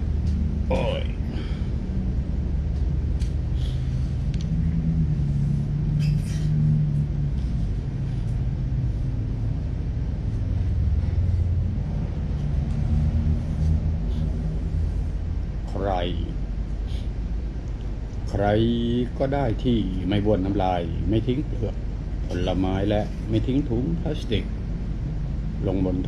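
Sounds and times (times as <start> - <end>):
droning hum: 0.0 - 26.0
low mechanical rumble: 0.0 - 26.0.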